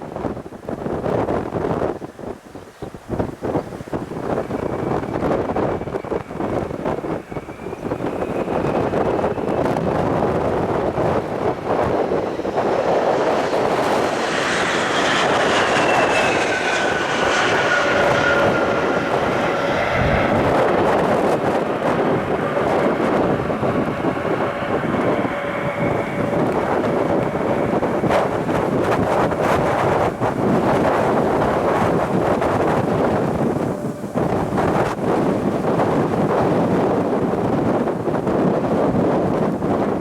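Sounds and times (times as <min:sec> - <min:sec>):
airliner engines passing: 0:00.0 - 0:40.0.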